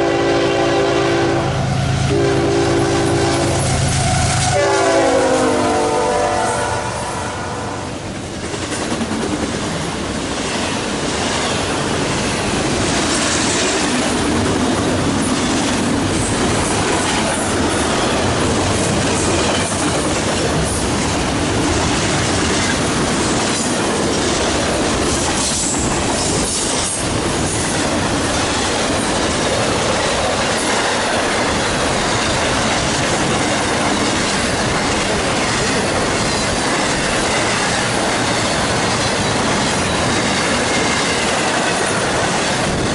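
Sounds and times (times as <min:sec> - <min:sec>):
freight train wheels on rail: 0:00.0 - 0:42.9.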